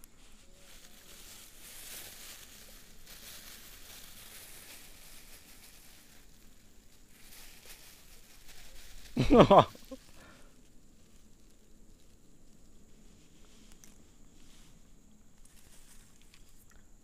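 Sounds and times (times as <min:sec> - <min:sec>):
light rustling: 0:00.0 - 0:16.7
soft steady hiss: 0:00.0 - 0:17.0.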